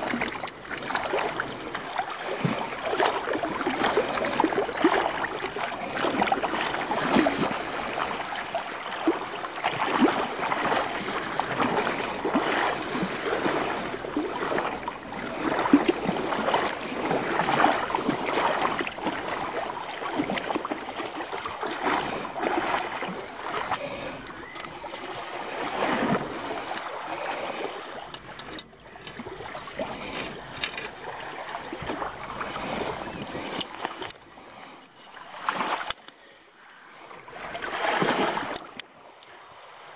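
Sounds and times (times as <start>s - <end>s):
seawater sloshing and splashing: 0.0s - 39.9s.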